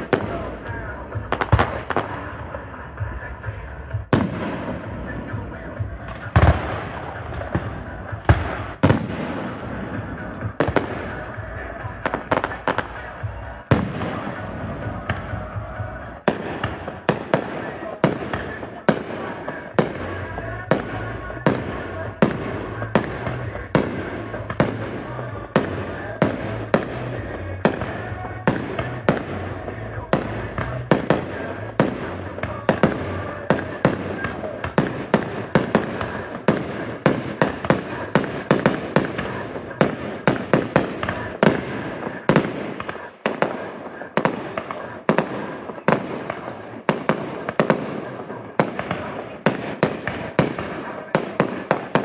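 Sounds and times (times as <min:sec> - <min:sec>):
fireworks bangs: 0:00.0 - 0:52.0
music: 0:00.0 - 0:52.0
voices: 0:00.0 - 0:52.0.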